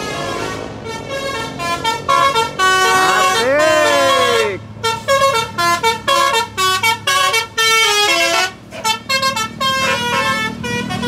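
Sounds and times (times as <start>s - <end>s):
multi-tone bus horn melody: 0.0s - 11.0s.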